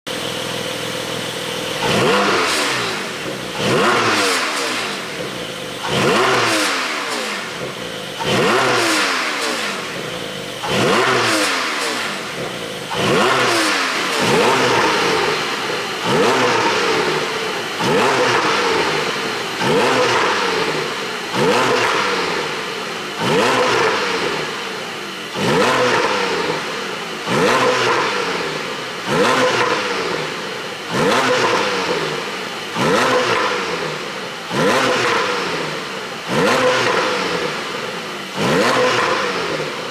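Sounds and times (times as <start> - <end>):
car engine revving in blips: 0.1 - 39.9.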